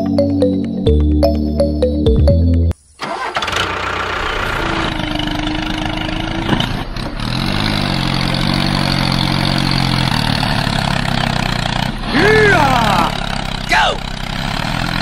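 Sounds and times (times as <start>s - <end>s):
tractor engine starting and running: 0.0s - 15.0s.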